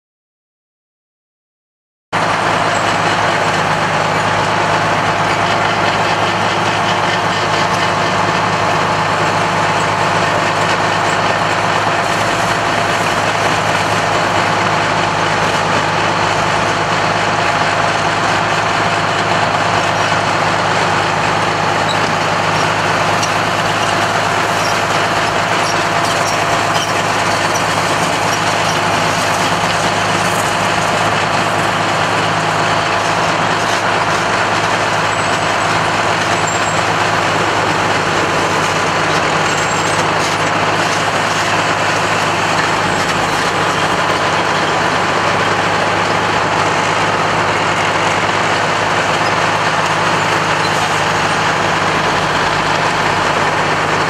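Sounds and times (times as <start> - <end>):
truck engines running: 2.2 - 54.0.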